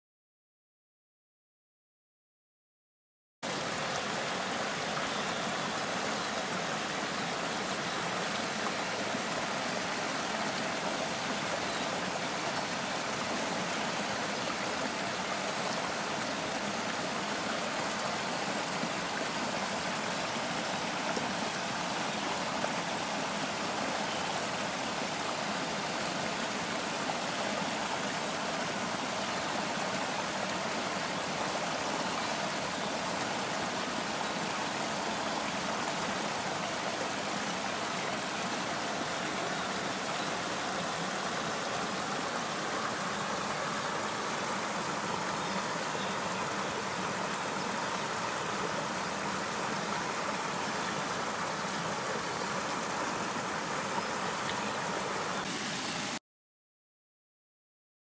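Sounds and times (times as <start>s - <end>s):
stream pouring over cascade: 3.4s - 56.2s.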